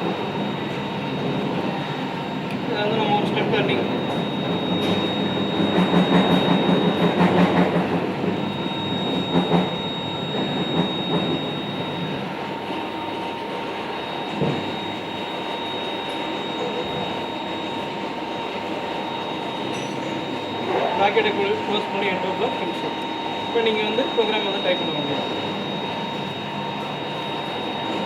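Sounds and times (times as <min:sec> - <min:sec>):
thin high whine: 0:00.0 - 0:28.0.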